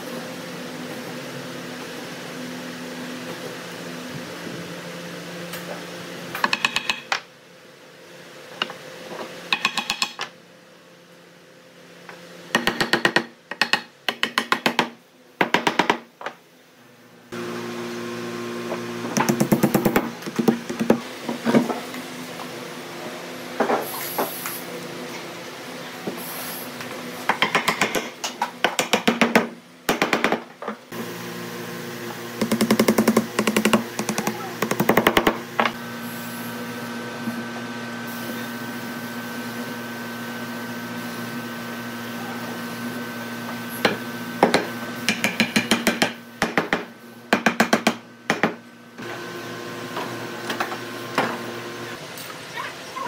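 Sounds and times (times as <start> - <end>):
workshop hum: 0.0 - 53.0.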